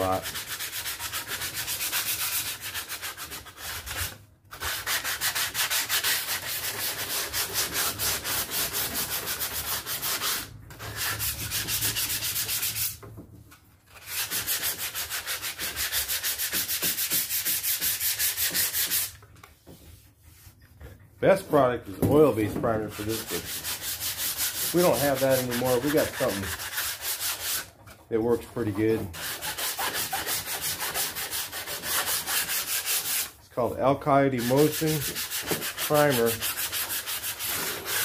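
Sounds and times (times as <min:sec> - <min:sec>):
sandpaper rubbing on wood: 0:00.0 - 0:13.0, 0:14.0 - 0:19.2, 0:22.2 - 0:27.7, 0:28.3 - 0:38.0.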